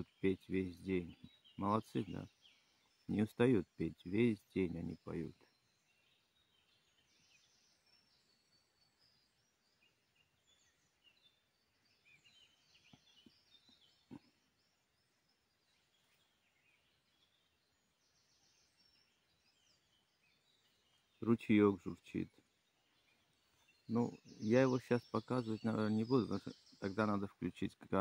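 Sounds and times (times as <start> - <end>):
bird chirps and trills: 0.0 - 28.0.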